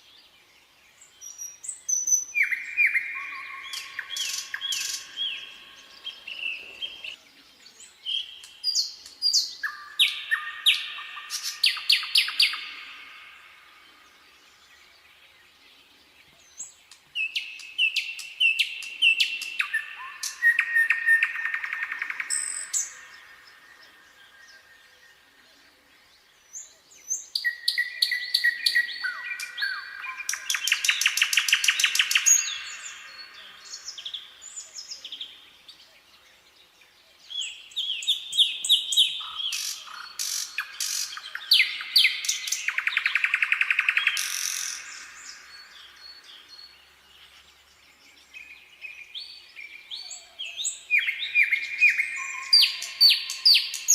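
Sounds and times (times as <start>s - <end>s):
nightingale singing: 0.0s - 53.9s.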